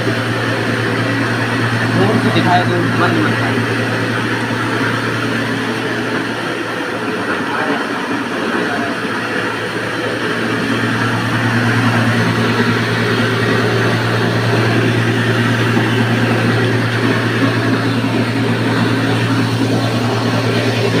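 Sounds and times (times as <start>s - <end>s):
mill rushing noise: 0.0s - 21.0s
motor hum: 0.0s - 21.0s.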